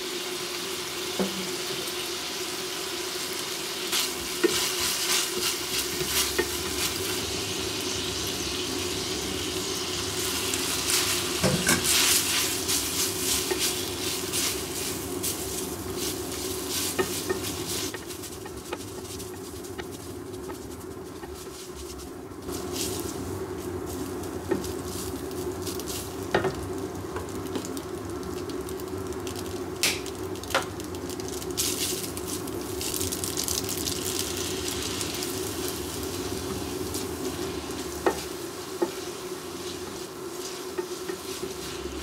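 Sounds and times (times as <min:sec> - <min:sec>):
food sizzling in a frying pan: 0:00.0 - 0:42.0
steady low hum: 0:03.9 - 0:42.0.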